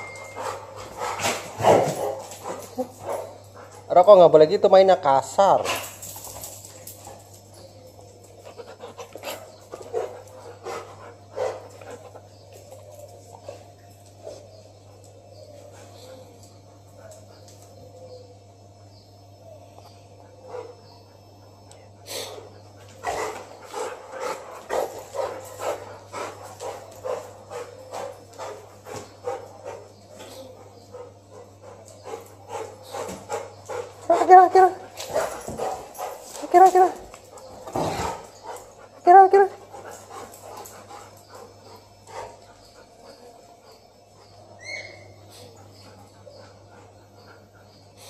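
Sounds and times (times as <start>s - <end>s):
small birds chirping: 0.0s - 48.0s
dogs play-fighting vocalizing: 0.1s - 3.9s, 5.7s - 17.8s, 20.1s - 48.0s.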